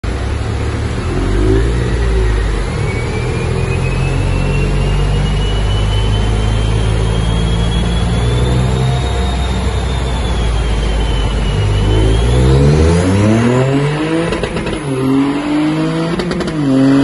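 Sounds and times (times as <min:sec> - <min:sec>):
car engine under load: 0:00.0 - 0:17.0
high turbo whine rising: 0:00.1 - 0:17.0.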